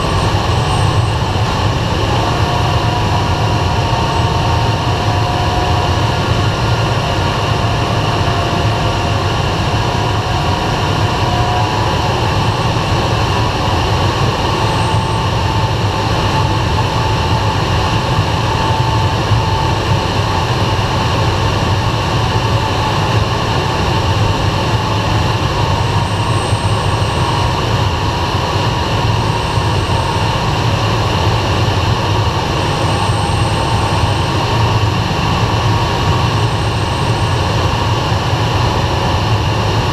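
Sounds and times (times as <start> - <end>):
low drone of plane engine: 0.0 - 39.9
rush of air around cockpit: 0.0 - 39.9.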